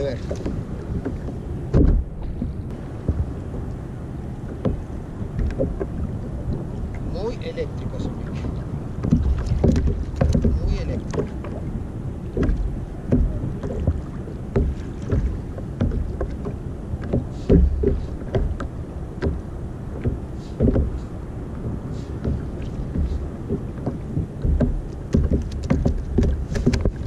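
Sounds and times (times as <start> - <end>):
waves slapping against kayak hull: 0.0 - 27.0
wind rumble on microphone: 0.0 - 27.0.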